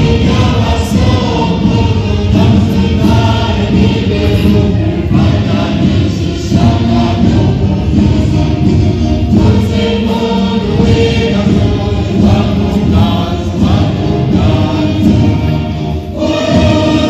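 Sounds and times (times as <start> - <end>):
choir singing music: 0.0 - 17.0.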